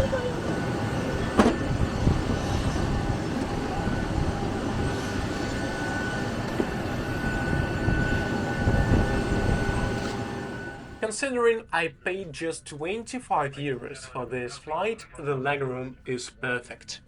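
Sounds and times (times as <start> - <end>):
aircraft air system rumble and hum: 0.0 - 16.8
faint whine: 0.0 - 17.0.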